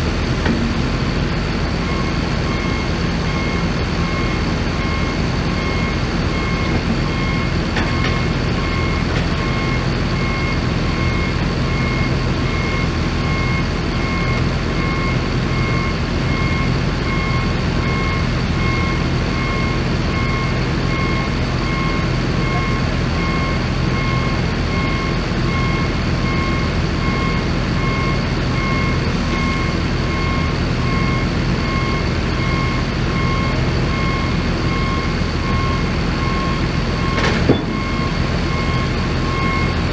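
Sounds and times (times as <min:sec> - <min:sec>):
heavy engine running: 0:00.0 - 0:39.9
backup alarm beeping: 0:01.8 - 0:39.9.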